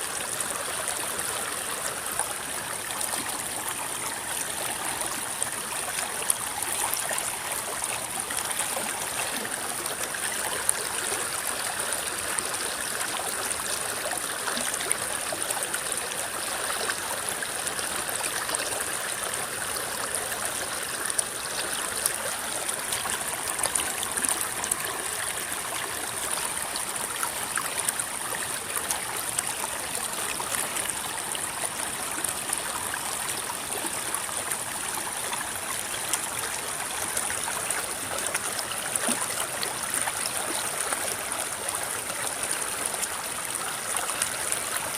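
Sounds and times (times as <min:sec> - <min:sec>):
river water flowing over stones: 0:00.0 - 0:44.9.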